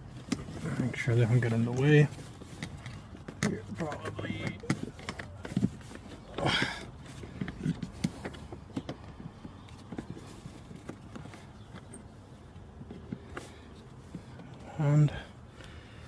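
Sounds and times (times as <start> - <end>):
scraping rustle: 0.0 - 15.2.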